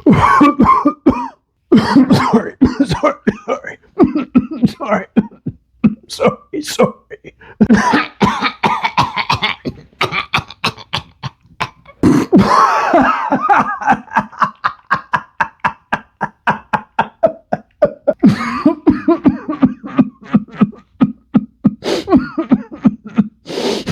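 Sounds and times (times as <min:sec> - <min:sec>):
person coughing rhythmically: 0:00.0 - 0:23.9.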